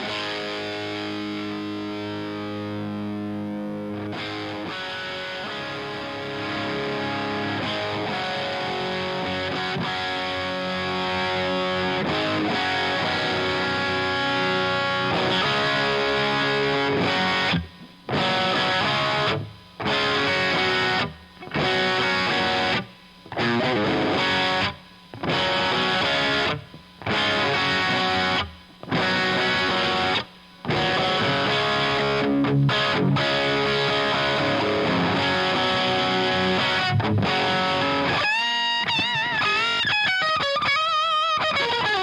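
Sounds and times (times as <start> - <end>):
distorted electric guitar chords: 0.0 - 42.0.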